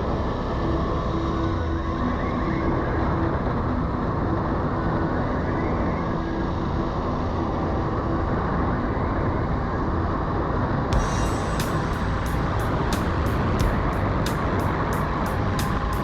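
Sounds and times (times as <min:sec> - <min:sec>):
vehicle road and wind noise: 0:00.0 - 0:16.0.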